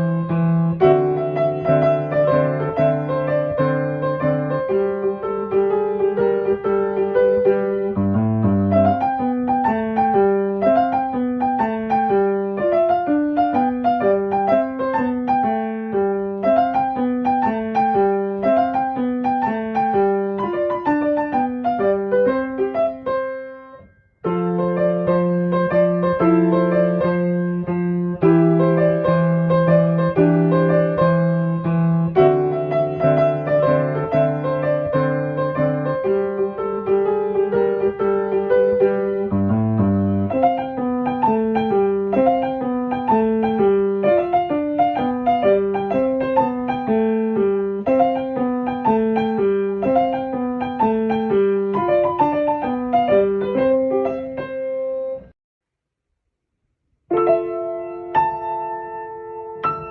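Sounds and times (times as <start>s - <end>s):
piano music: 0.0s - 55.4s, 57.1s - 59.9s.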